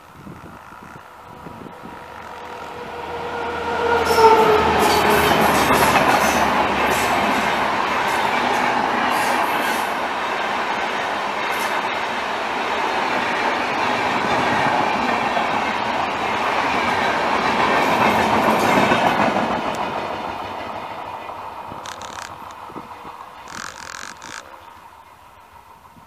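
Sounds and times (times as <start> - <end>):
train coaches running on rails: 0.0 - 26.0.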